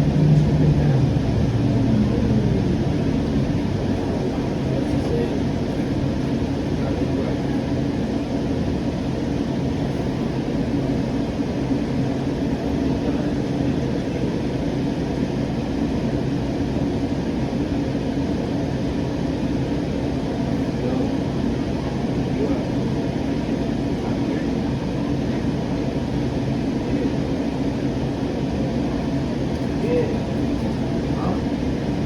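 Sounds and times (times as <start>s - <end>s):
light rail car rumbling: 0.0s - 32.0s.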